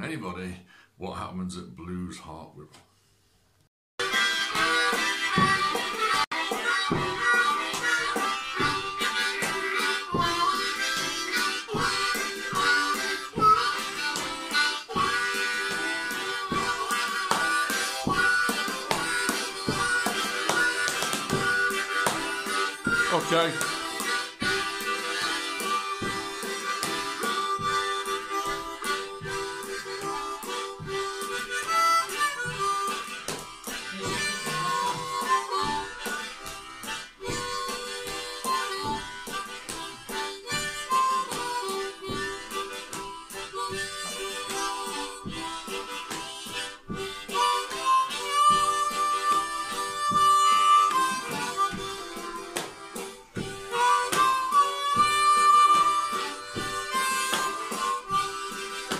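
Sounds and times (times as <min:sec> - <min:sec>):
blues harmonica playing: 0:04.0 - 0:58.9.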